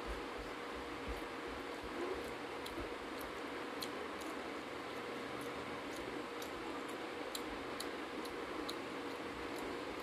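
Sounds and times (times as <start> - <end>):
faint hum: 0.0 - 10.0
wet eating clicks: 1.1 - 10.0.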